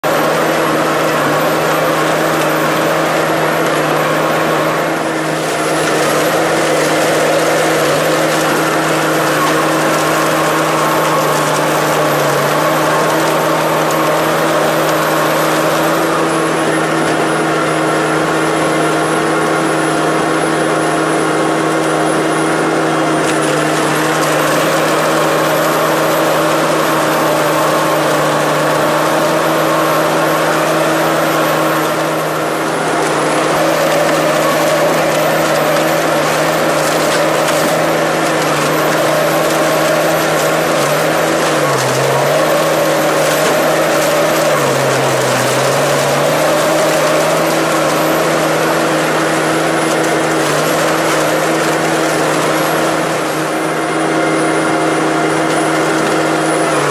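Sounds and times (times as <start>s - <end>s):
tree shredder grinding logs: 0.0s - 56.9s.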